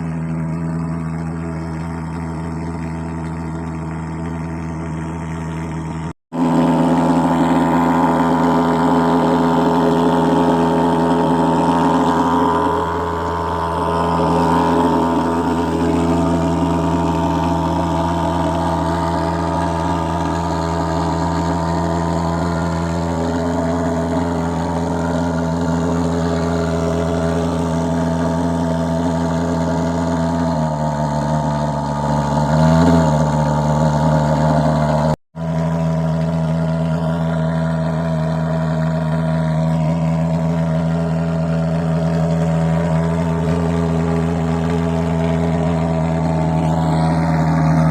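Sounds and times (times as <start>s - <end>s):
fogging machine engine droning: 0.0s - 47.9s.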